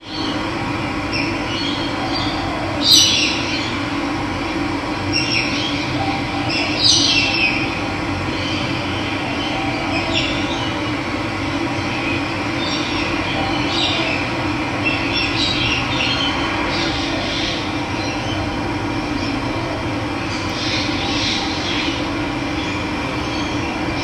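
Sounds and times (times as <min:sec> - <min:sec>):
birds calling: 0:00.0 - 0:24.0.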